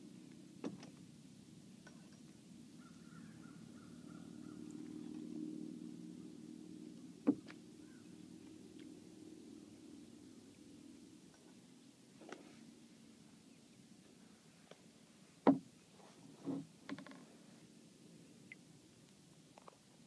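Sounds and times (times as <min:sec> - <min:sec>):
faint steady low hum: 0:00.0 - 0:20.0.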